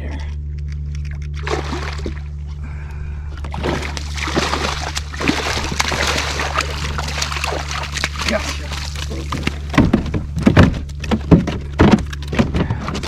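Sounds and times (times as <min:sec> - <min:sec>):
steady low hum: 0:00.0 - 0:13.0
water splashing and sloshing: 0:01.3 - 0:13.0.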